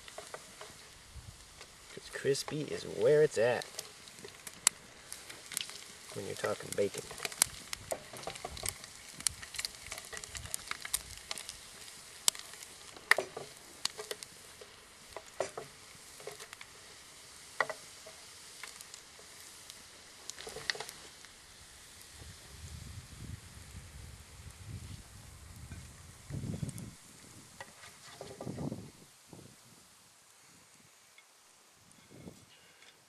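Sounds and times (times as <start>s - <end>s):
fat popping and crackling: 0.0s - 29.6s
bacon sizzling in a pan: 0.0s - 30.1s.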